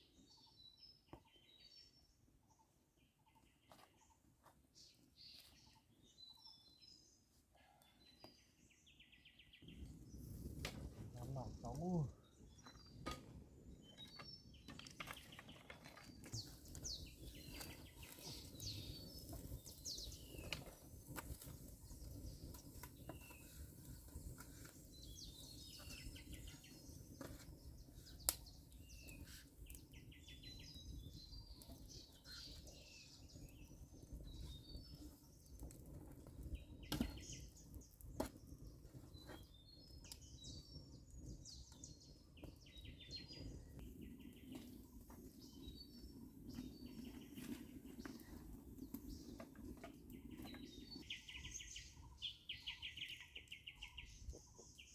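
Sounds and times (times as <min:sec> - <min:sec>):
birds chirping: 0:04.8 - 0:54.9.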